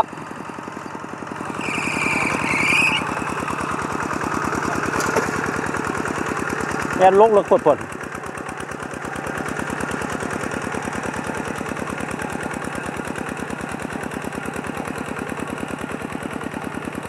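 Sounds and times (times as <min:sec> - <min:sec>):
diesel engine thudding: 0:00.0 - 0:17.0.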